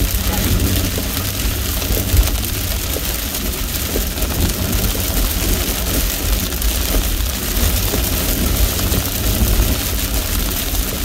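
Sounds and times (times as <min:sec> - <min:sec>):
deep rumble: 0:00.0 - 0:11.0
rain on a car: 0:00.0 - 0:11.0
tyres hissing on wet road: 0:00.0 - 0:11.0.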